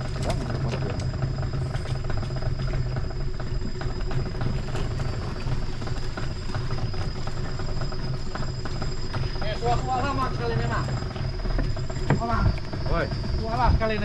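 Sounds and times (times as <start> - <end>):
small boat engine running: 0.0 - 14.0.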